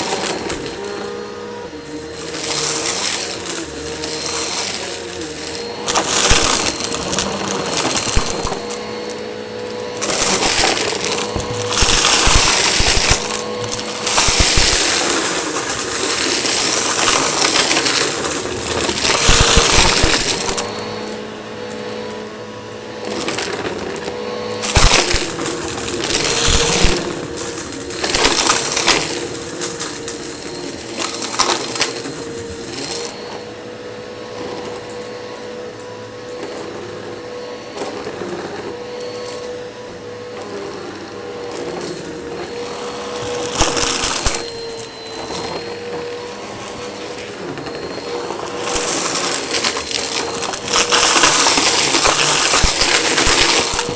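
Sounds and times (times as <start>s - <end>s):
debris rattling up vacuum: 0.0s - 53.9s
vacuum cleaner motor hum: 0.0s - 53.9s.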